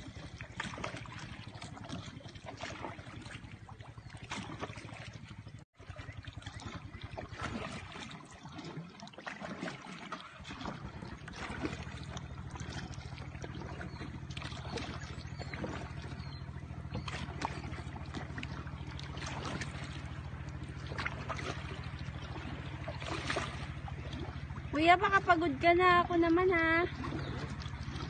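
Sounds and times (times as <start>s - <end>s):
low hum: 0.0s - 8.9s, 10.2s - 28.0s
paddle splashing in water: 0.0s - 28.0s.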